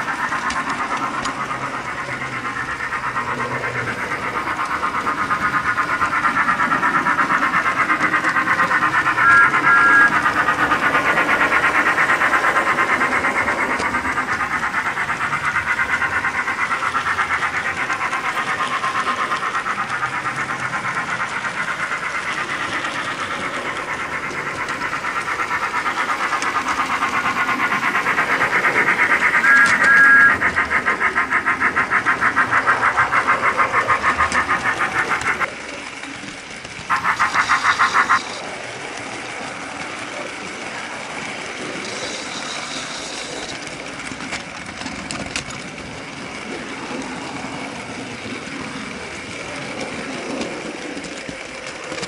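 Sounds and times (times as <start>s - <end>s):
toy locomotive steam chuffs: 0.0s - 52.0s.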